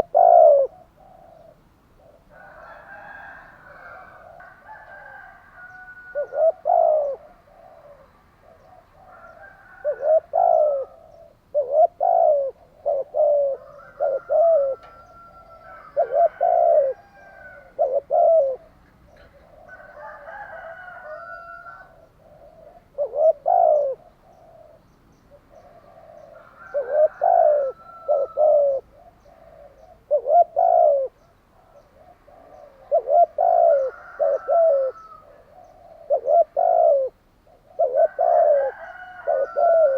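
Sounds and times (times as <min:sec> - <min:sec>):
higher bird calls: 0:00.0 - 0:20.0, 0:20.6 - 0:39.9
dove cooing: 0:00.0 - 0:39.9.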